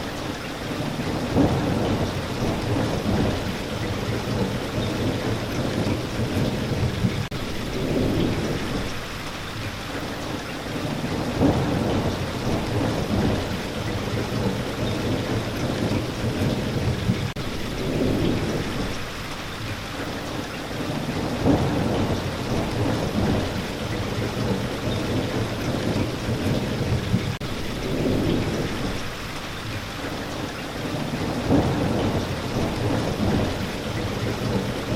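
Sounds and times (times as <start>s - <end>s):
steady rain: 0.0s - 34.9s
thunder rumbling: 0.6s - 9.6s, 10.6s - 19.6s, 20.8s - 30.2s, 30.8s - 34.9s.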